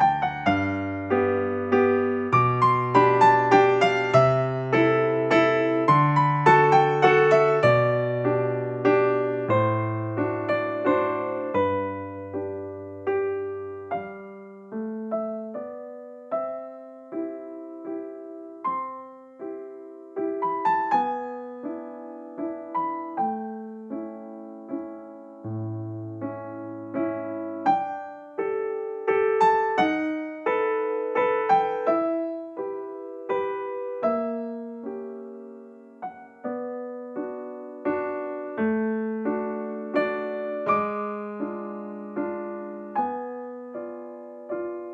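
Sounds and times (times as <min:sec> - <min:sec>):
gentle piano music: 0:00.0 - 0:44.9.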